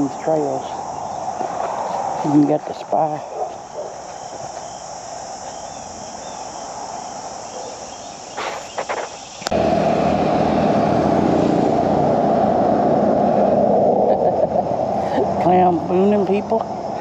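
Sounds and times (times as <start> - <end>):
crickets buzzing: 0.0 - 17.0
wind noise: 0.0 - 17.0.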